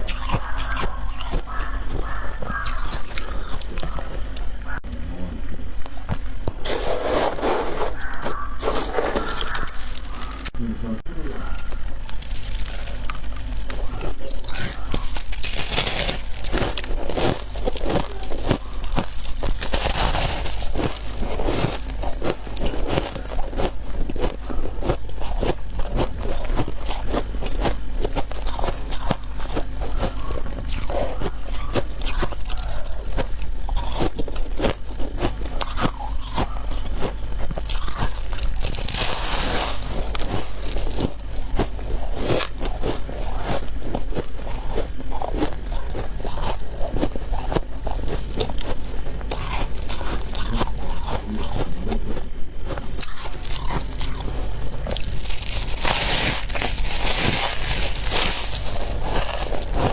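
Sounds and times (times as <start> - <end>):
person chewing ice: 0.0 - 10.6, 11.2 - 59.9.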